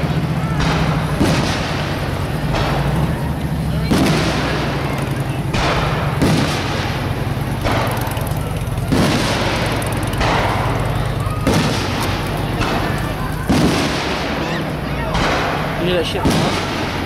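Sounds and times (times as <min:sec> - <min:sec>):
fireworks shells bursting: 0:00.0 - 0:17.0.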